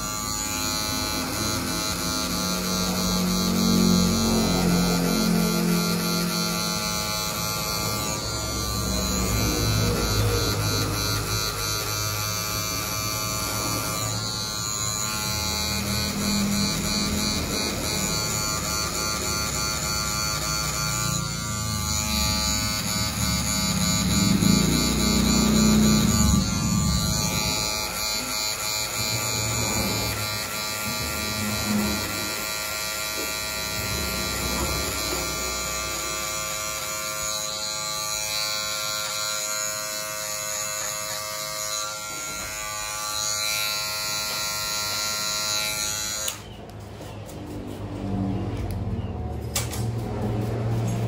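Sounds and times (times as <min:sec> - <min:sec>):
electric hair clipper running: 0:00.0 - 0:51.0.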